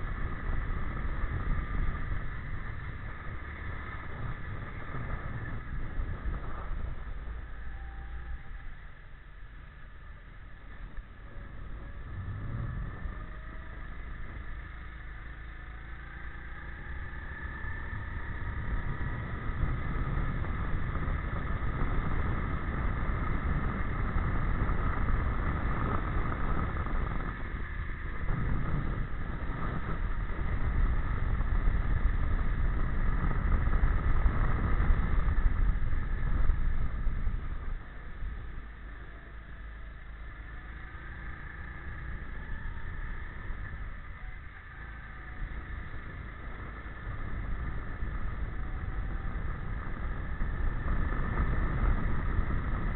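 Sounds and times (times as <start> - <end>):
go-kart engine running: 0.0 - 52.9
wind rumble on microphone: 0.0 - 52.9.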